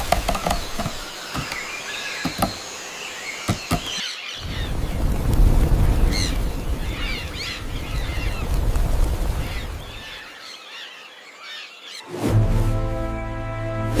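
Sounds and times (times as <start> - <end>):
birds chirping and squawking: 0.0 - 5.2, 5.8 - 12.1.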